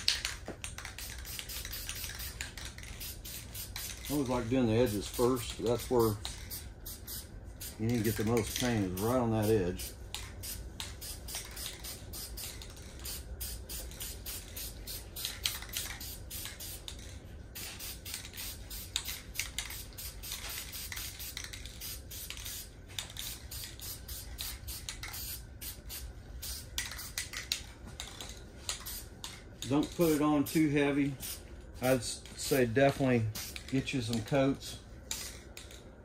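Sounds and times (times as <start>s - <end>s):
spray paint can hissing: 0.0s - 34.3s, 35.1s - 35.8s.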